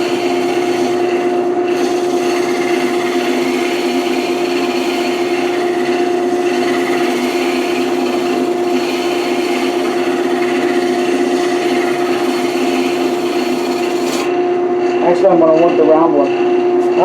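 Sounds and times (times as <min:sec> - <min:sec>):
lathe motor hum: 0:00.0 - 0:14.4
tool scraping spinning wood: 0:00.0 - 0:14.4.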